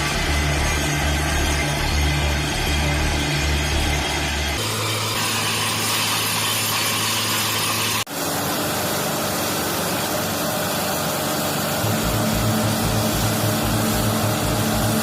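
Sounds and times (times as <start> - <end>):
drilling rig engine running: 0.0 - 15.0.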